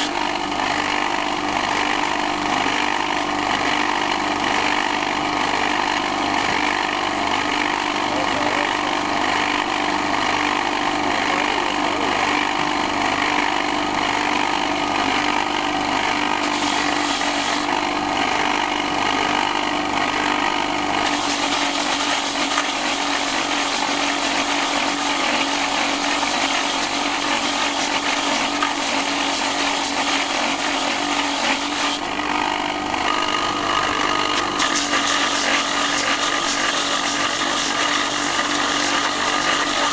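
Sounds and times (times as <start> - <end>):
grinding wheel humming: 0.0 - 39.9.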